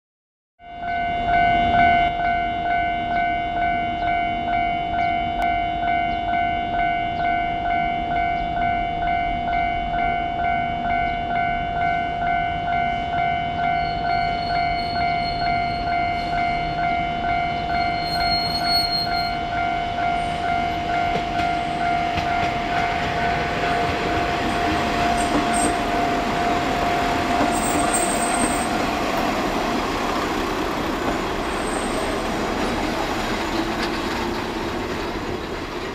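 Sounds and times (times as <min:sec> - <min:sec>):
level crossing alarm ringing: 0:00.6 - 0:33.0
railcar engine and wheels rumbling: 0:00.6 - 0:35.9.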